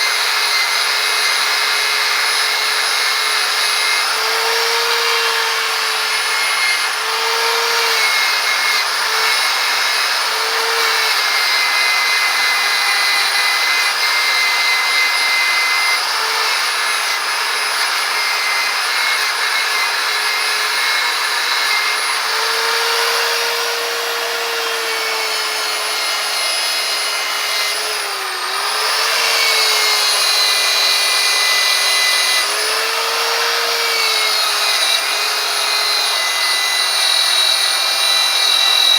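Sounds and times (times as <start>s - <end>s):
power tool buffing metal: 0.0s - 38.9s.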